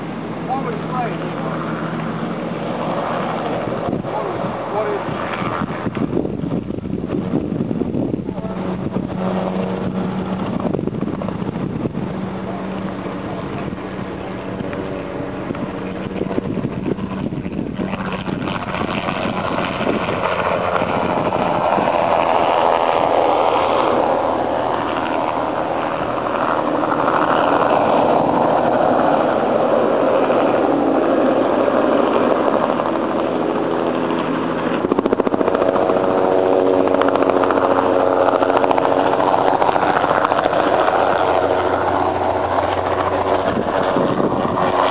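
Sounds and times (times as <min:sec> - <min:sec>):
helicopter rotor and turbine: 0:00.0 - 0:44.9.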